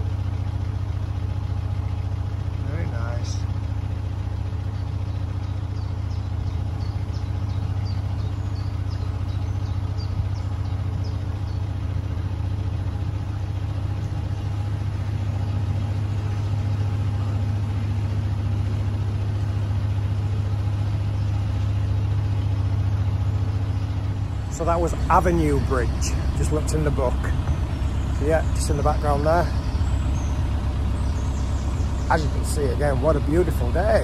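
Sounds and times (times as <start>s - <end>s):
boat diesel engine droning: 0.0s - 34.0s.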